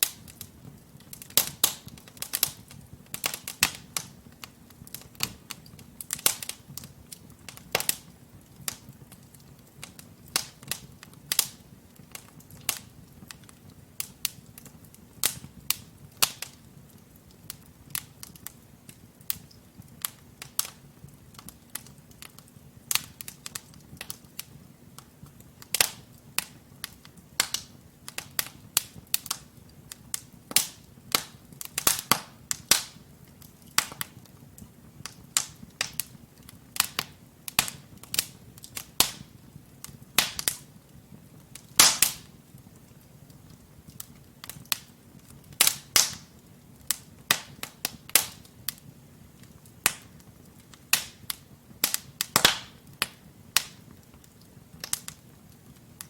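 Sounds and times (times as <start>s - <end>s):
burning logs popping: 0.0s - 56.0s
low rumble of flames: 0.0s - 56.0s
wood fire crackling: 0.0s - 56.0s.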